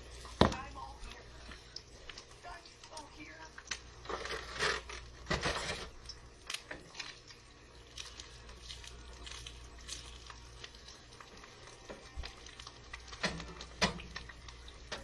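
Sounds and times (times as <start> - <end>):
egg sizzling in a pan: 0.0 - 15.0
low steady hum: 0.0 - 15.0.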